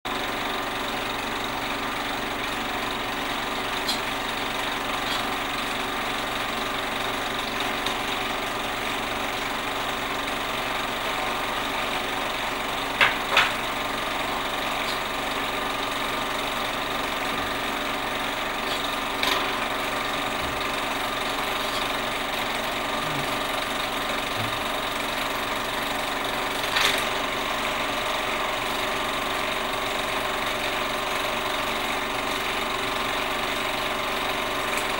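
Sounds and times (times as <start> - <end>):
small machine whirring: 0.2 - 34.9.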